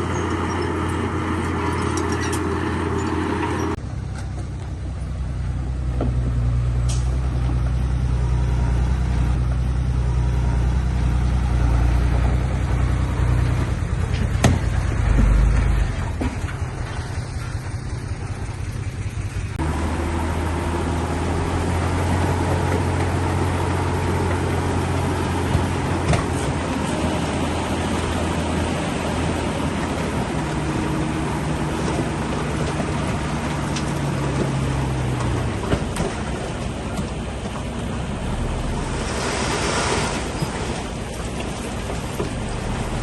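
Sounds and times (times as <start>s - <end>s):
diesel machinery engines running: 0.0s - 43.0s.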